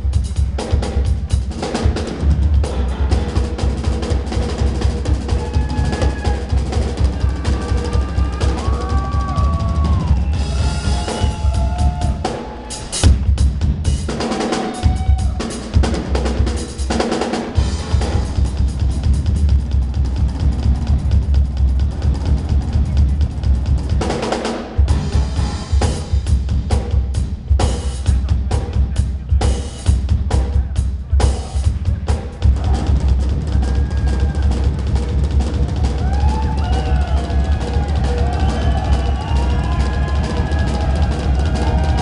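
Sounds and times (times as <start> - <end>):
bass drum: 0.0 - 12.4, 13.0 - 42.0
live band music: 0.0 - 42.0.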